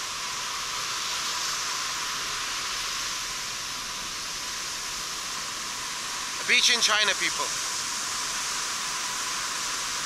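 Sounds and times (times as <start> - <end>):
sea surf washing onto beach: 0.0 - 10.0.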